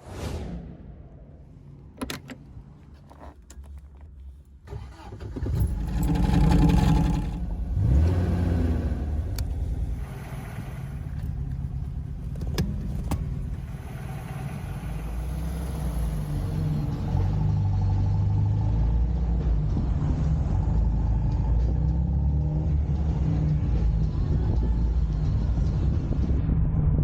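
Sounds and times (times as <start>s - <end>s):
car engine and road rumble: 0.8s - 27.0s.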